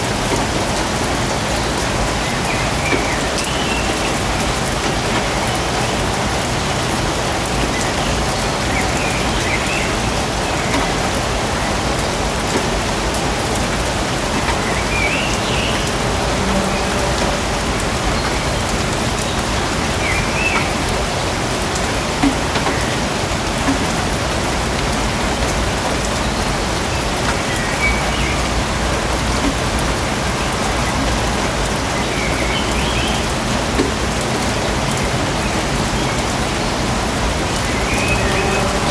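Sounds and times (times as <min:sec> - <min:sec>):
louder raindrops: 0:00.0 - 0:38.9
steady rain in a forest: 0:00.0 - 0:38.9.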